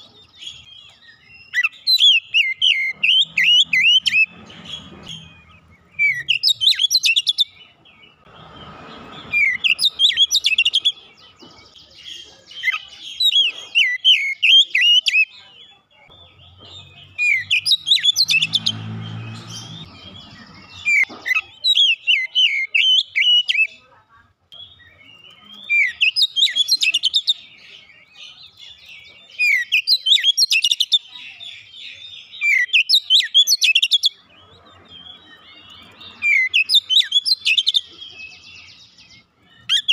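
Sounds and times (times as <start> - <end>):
magpie-robin singing: 0.0 - 23.9, 24.5 - 39.9.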